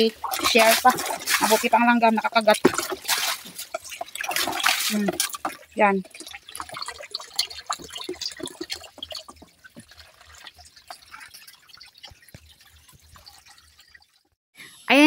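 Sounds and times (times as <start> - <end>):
water dripping and splashing: 0.0 - 14.4
water stream into dipper: 0.0 - 14.4.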